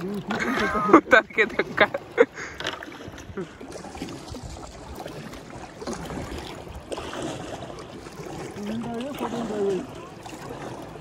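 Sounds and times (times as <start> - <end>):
river water running: 0.0 - 11.0.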